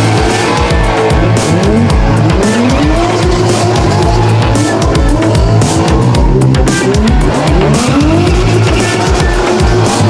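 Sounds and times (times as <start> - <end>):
car engines revving: 0.0 - 10.0
loud music with bass beat: 0.0 - 10.0.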